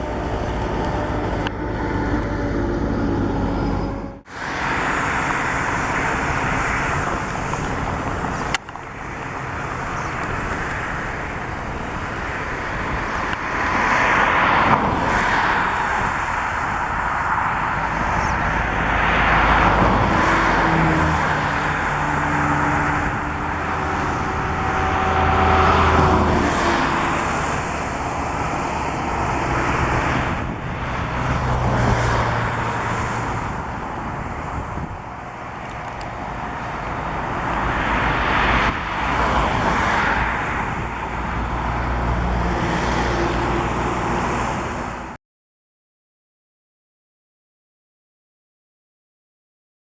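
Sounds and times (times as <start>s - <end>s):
motor vehicles passing: 0.0s - 45.2s
road noise: 0.0s - 45.2s.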